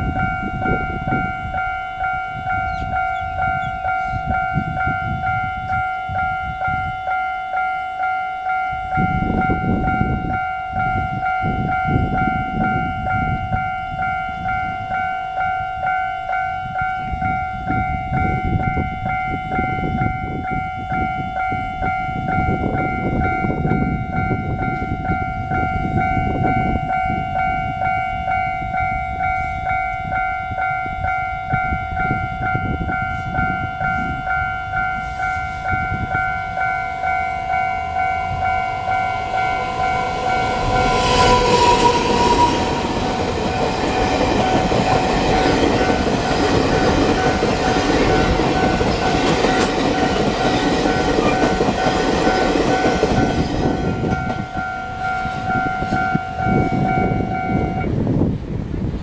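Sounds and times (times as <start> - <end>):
train horn: 0.0 - 58.0
level-crossing warning bell: 0.0 - 58.2
train passing: 0.0 - 59.0.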